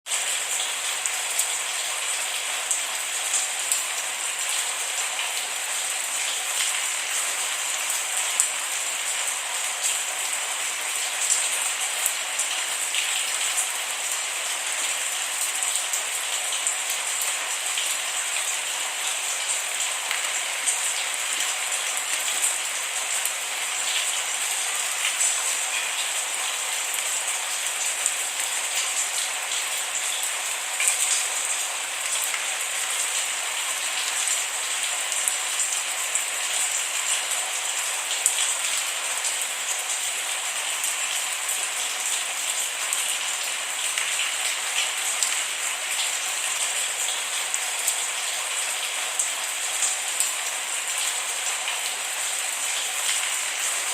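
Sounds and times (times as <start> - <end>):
steady rain falling: 0.1 - 53.9.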